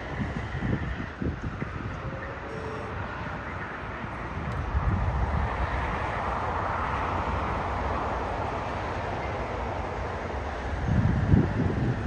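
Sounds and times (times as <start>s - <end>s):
distant jet engines rushing: 0.0s - 12.0s
wind rumble on microphone: 0.0s - 12.0s.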